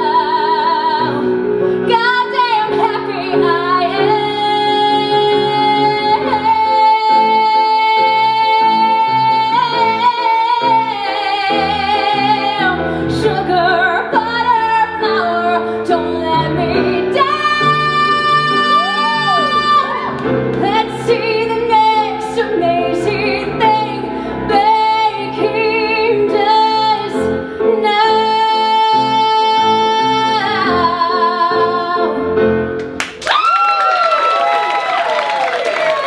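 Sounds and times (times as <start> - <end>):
woman singing ballad: 0.0 - 32.4
grand piano: 0.0 - 36.0.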